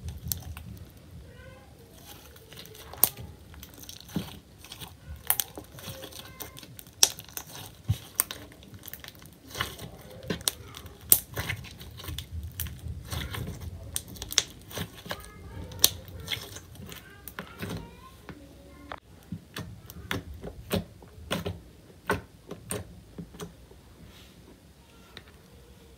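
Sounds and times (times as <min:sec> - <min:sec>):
slime squishing crackle: 0:00.0 - 0:23.5.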